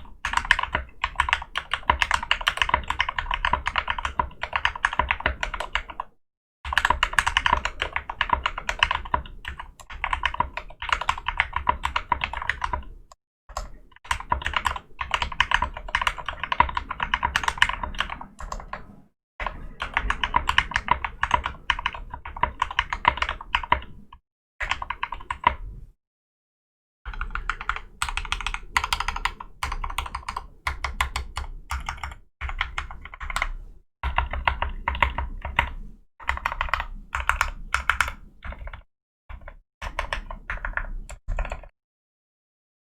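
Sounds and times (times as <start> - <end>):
mechanical keyboard typing: 0.0 - 6.1, 6.7 - 18.9, 19.5 - 24.0, 24.6 - 25.6, 27.1 - 41.7.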